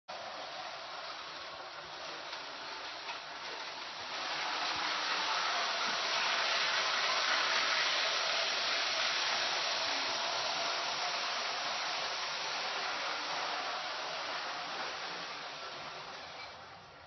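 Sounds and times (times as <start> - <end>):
toy train whirring on track: 0.1 - 17.0.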